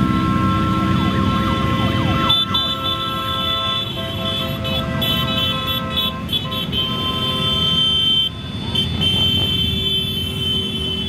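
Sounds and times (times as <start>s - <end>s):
horns sounding held tones: 0.0s - 11.0s
motorcycle engines running: 0.0s - 11.0s.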